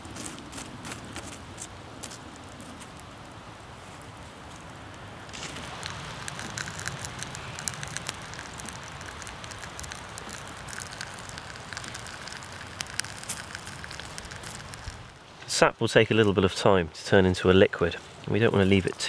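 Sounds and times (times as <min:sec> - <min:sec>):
embers crackling and popping: 0:00.0 - 0:16.6, 0:17.9 - 0:19.0
soft steady hiss: 0:00.0 - 0:19.0.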